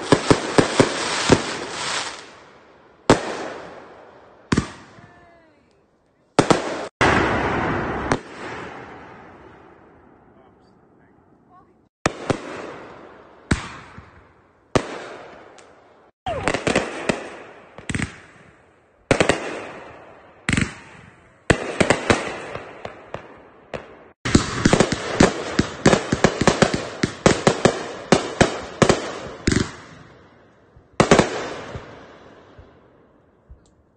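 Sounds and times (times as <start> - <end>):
fireworks bangs: 0.0 - 5.7, 6.3 - 10.7, 12.0 - 32.8
fireworks crackling volley: 0.0 - 33.9.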